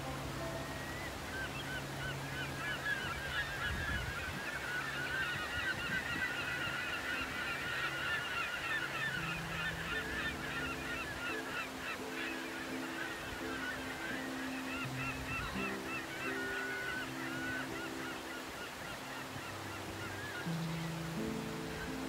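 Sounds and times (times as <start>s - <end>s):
flock of birds honking: 0.0s - 22.0s.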